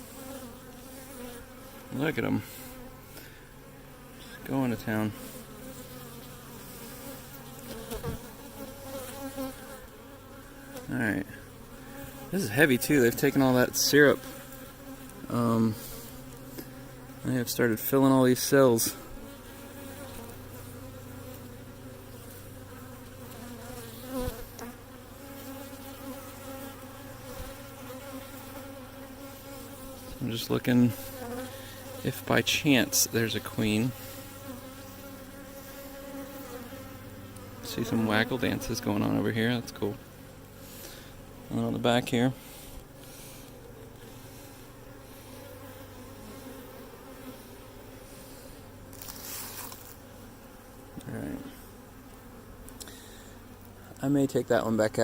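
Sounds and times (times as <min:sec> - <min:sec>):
honey bees buzzing: 0:00.0 - 0:55.0.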